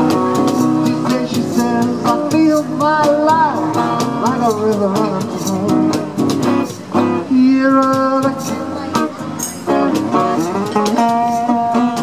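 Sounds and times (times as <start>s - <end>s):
acoustic guitar: 0.0s - 12.0s
cajon beat: 0.0s - 12.0s.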